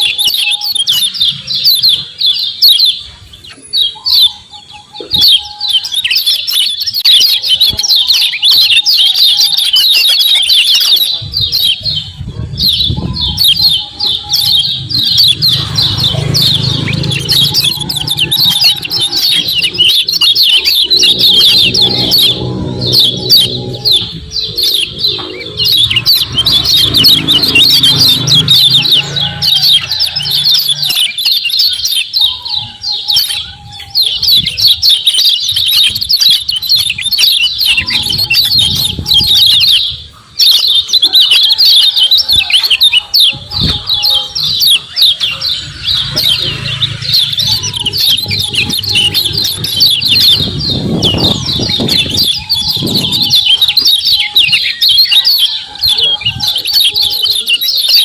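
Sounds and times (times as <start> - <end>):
bird chattering high chirps: 0.0 - 58.0.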